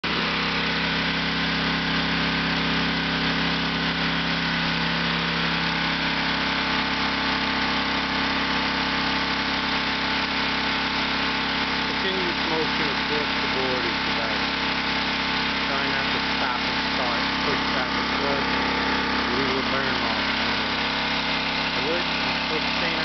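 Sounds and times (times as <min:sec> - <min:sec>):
pressure washer engine running: 0:00.0 - 0:23.0.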